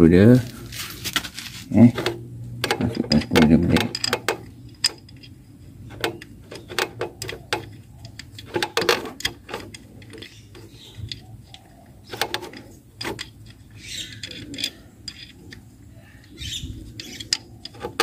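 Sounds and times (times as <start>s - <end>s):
metal bolt clicks and knocks: 1.8s - 18.0s.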